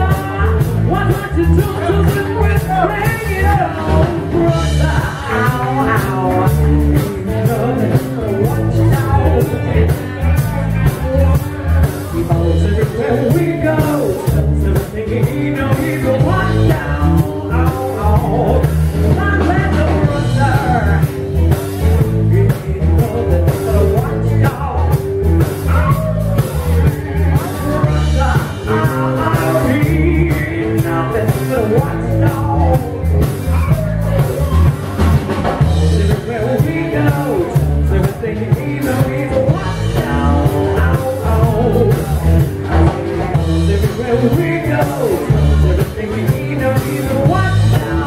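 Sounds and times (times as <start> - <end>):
drum kit beat: 0.0 - 48.0
electric bass: 0.0 - 48.0
electric guitar: 0.0 - 48.0.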